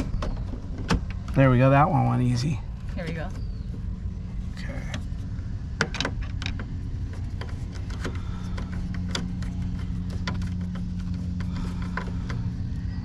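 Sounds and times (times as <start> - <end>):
low drone: 0.0 - 13.0.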